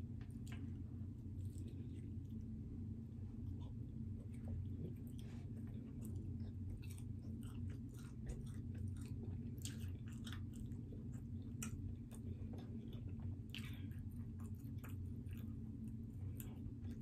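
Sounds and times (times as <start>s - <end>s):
steady low hum: 0.0s - 17.0s
person chewing food: 0.1s - 17.0s.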